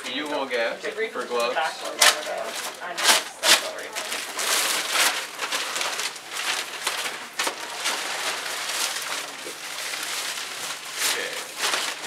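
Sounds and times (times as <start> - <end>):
paper and plastic packaging crinkling: 0.0 - 12.0.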